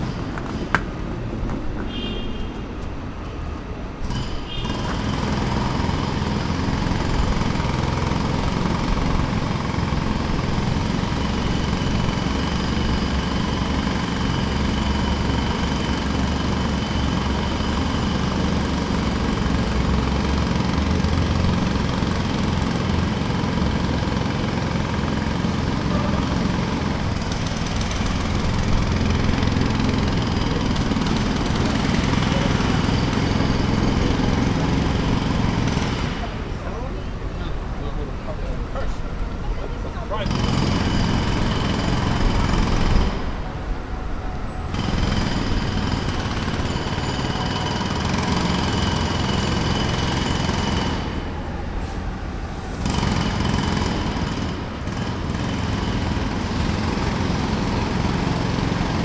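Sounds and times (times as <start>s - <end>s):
construction machinery engine running: 0.0s - 59.0s.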